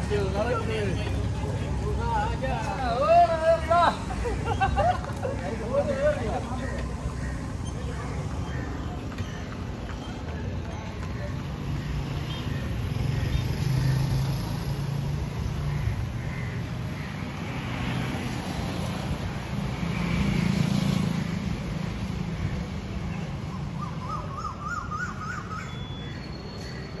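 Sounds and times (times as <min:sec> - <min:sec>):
low traffic rumble: 0:00.0 - 0:27.0.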